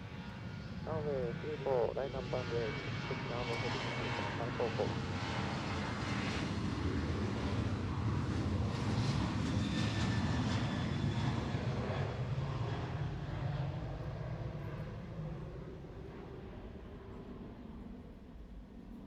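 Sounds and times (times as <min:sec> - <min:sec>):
airliner engines rumbling: 0:00.0 - 0:19.0
faint engine whine: 0:00.0 - 0:19.0.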